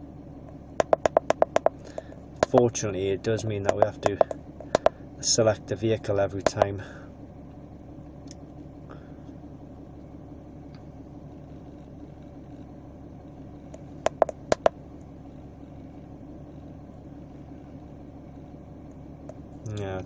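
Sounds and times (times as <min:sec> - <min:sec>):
car cabin hum: 0:00.0 - 0:20.0.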